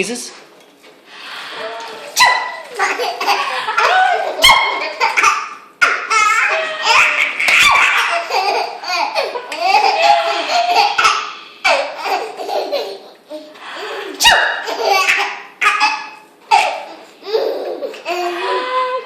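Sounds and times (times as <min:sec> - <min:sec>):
baby laughing: 0:02.2 - 0:18.6.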